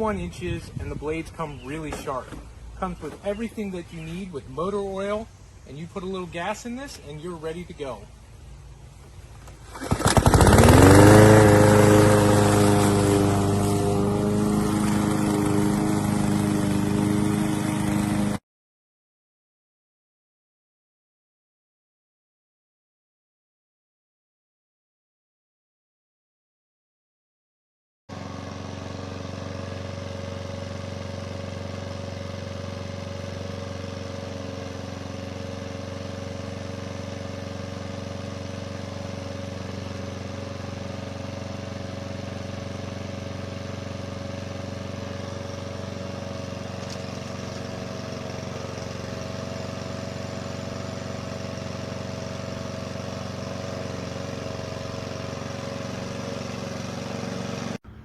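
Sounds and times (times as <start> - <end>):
lawn mower engine running: 0.0 - 18.4, 28.1 - 58.0.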